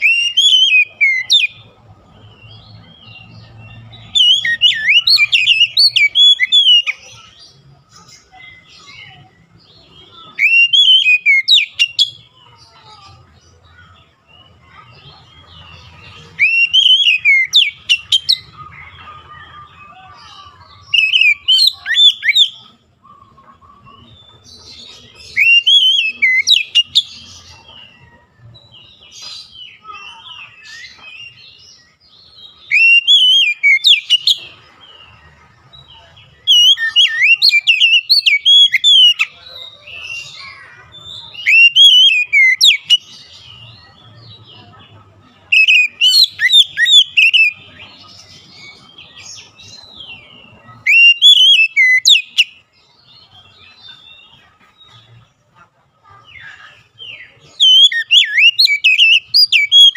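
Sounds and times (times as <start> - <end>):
bird warbling song: 0.0 - 55.5, 56.2 - 59.9.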